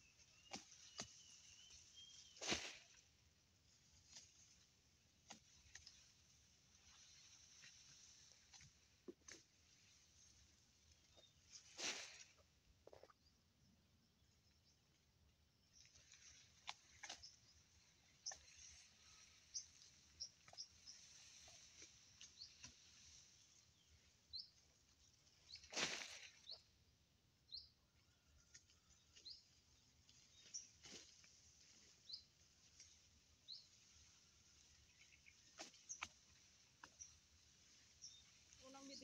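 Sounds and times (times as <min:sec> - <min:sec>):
small birds chirping: 0:00.0 - 0:11.7, 0:12.8 - 0:26.8, 0:27.4 - 0:39.0.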